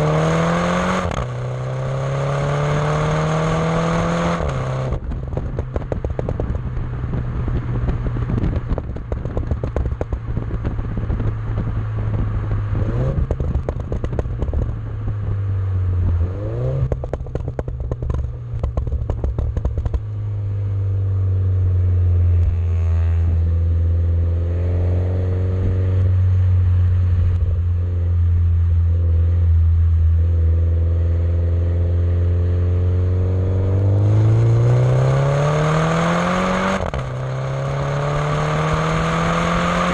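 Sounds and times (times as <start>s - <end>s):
car engine low drone: 0.0s - 39.9s
exhaust crackling: 0.0s - 39.9s.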